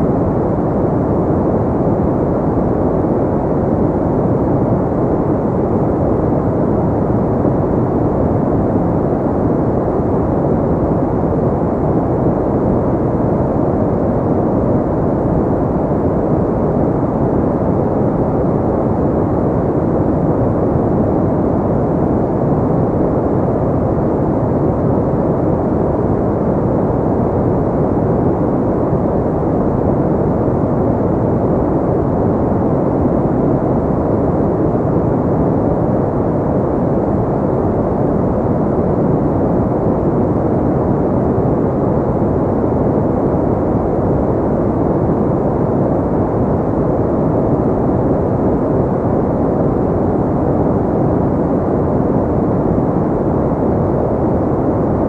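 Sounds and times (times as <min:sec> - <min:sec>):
muffled pink noise hiss: 0:00.0 - 0:55.0.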